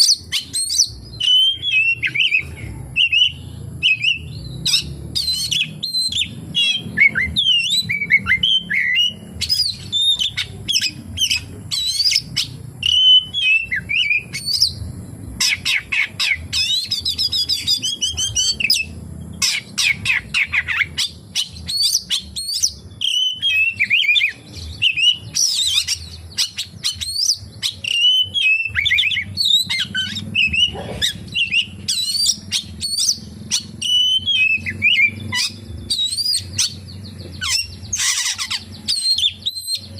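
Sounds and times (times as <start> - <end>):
bird singing whistled phrases: 0.0 - 14.8, 15.4 - 39.9.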